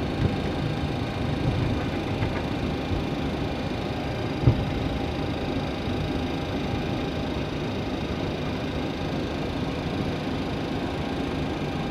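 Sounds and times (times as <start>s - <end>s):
aircraft engines idling while taxiing: 0.0s - 11.9s.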